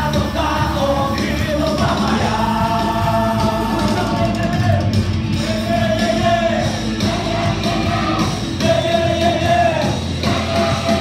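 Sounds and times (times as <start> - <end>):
people singing into microphones: 0.0 - 11.0
worship band playing: 0.0 - 11.0.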